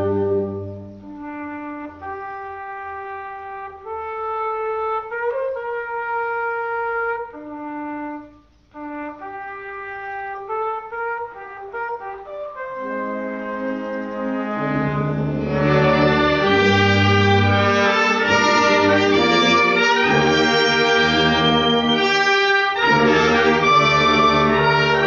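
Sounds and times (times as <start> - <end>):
wind band playing: 0.0 - 25.0.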